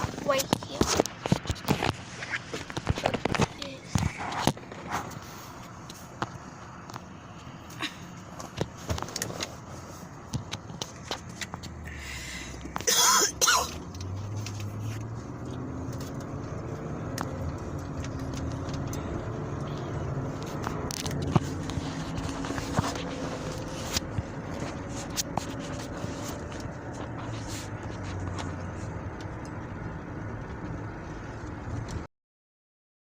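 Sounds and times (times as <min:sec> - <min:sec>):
vehicle interior hum: 0:00.0 - 0:32.1.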